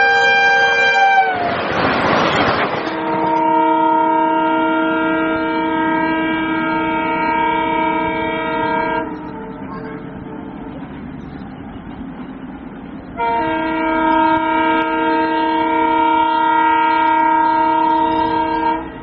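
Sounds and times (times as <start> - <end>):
train horn chord: 0.0 - 1.4, 2.9 - 11.0, 13.2 - 19.0.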